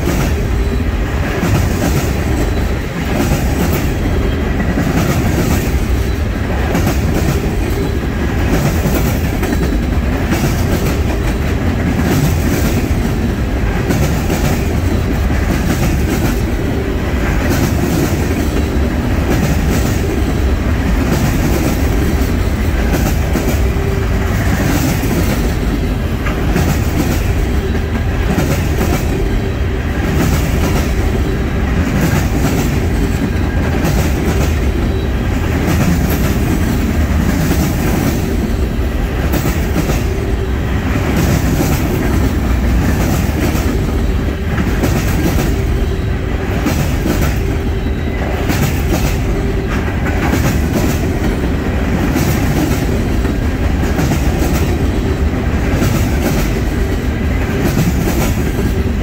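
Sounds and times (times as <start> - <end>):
clickety-clack of train wheels: 0.0 - 59.0
steel wheels rumbling on rail: 0.0 - 59.0.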